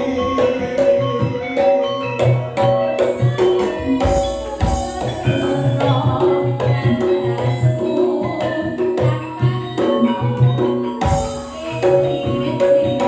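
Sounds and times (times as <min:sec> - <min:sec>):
hand drum beat: 0:00.0 - 0:13.0
music with held melodic notes: 0:00.0 - 0:13.0.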